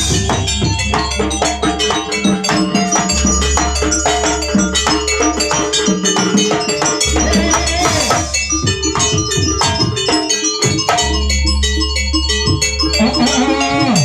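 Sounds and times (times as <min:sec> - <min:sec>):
drums: 0:00.0 - 0:14.0
struck metal mallet instruments: 0:00.0 - 0:14.0
sustained pitched tones: 0:00.0 - 0:14.0.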